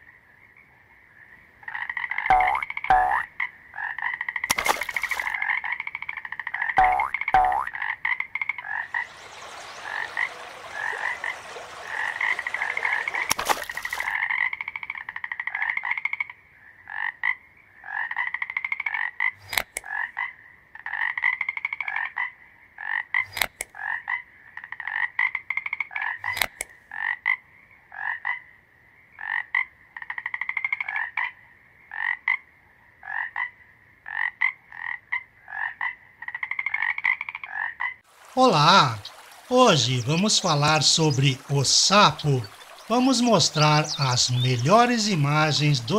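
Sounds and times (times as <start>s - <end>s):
frogs croaking: 0.0s - 45.9s.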